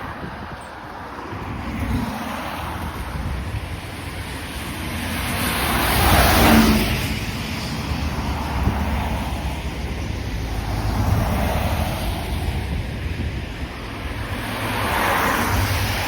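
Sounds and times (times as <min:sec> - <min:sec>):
low rumble of traffic: 0:00.0 - 0:16.0
vehicle passing by: 0:01.4 - 0:16.0.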